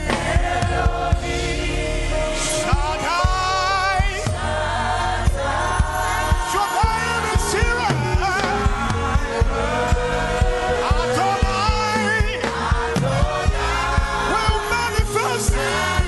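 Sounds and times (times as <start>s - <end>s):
gospel singing voices: 0.0s - 16.0s
steady drum beat: 0.0s - 16.0s.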